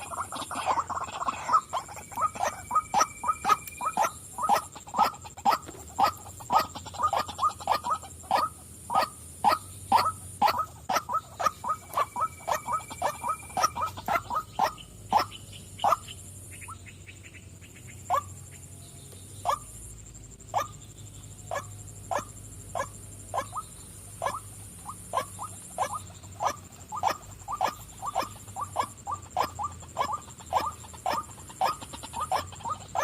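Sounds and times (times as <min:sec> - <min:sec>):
waterhen calling: 0:00.0 - 0:18.6, 0:19.4 - 0:19.7, 0:21.4 - 0:33.0.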